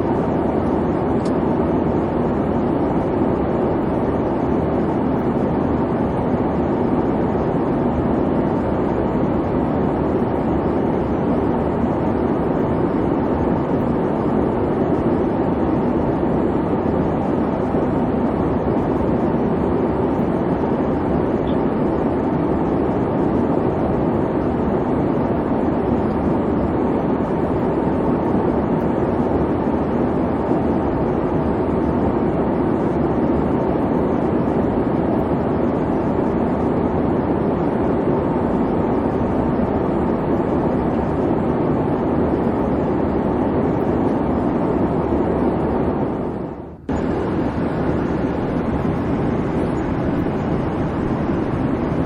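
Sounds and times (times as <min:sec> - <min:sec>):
airliner cabin engine rumble: 0:00.0 - 0:52.0.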